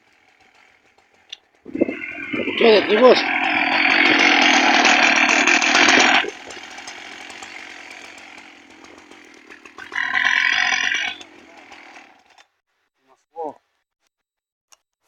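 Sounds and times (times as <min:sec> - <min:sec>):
chainsaw revving and idling: 0:00.0 - 0:12.5.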